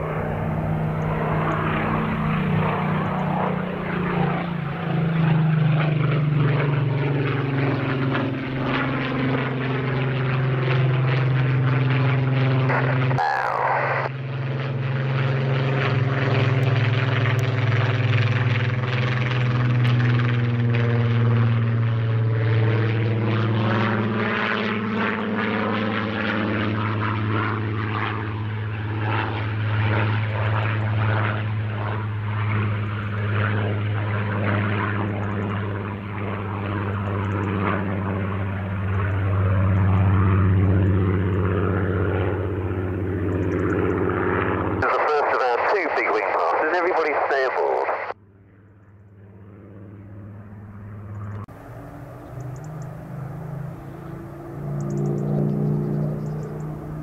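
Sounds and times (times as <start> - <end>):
propeller aircraft engine overhead: 0.0 - 57.0.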